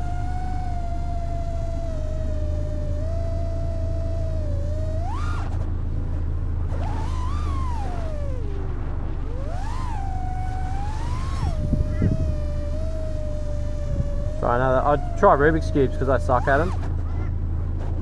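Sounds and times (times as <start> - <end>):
quadcopter motors whining: 0.0 - 18.0
steady low rumble: 0.0 - 18.0.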